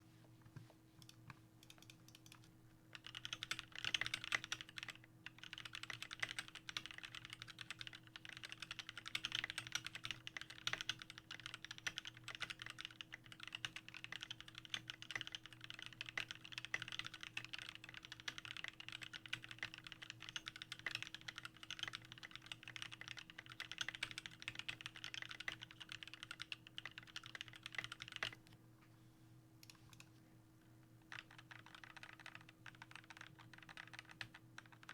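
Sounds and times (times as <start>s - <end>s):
mechanical keyboard typing: 1.0s - 28.4s, 31.1s - 34.9s.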